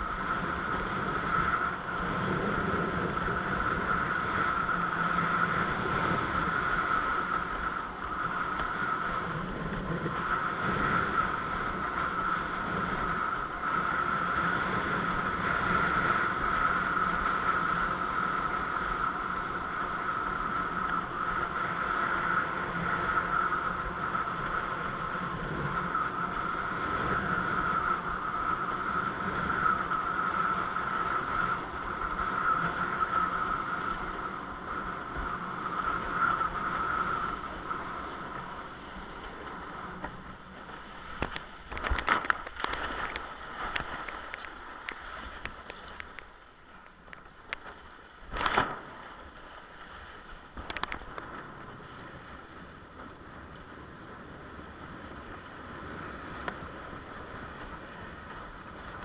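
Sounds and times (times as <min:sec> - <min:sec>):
constant high hum: 0:00.0 - 0:59.0
wind on microphone: 0:00.0 - 0:59.0.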